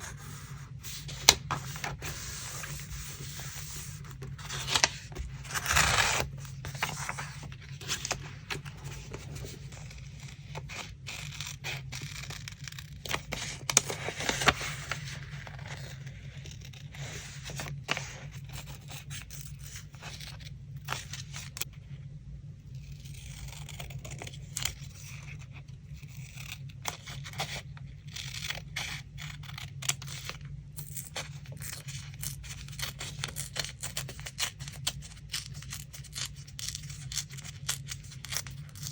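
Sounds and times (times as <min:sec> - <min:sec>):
paper rustling and tearing: 0:00.0 - 0:21.7, 0:23.3 - 0:38.9
steady low hum: 0:00.0 - 0:35.4.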